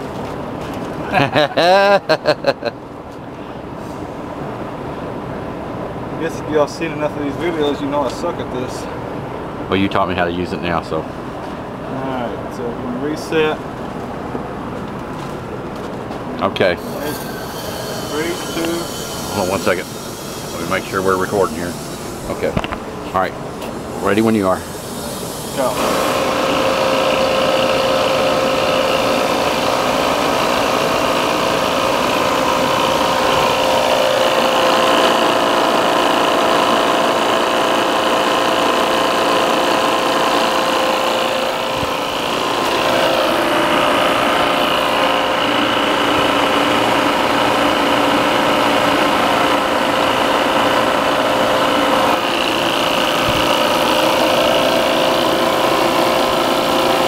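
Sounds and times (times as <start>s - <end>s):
compressor humming with whine: 0.0s - 57.0s.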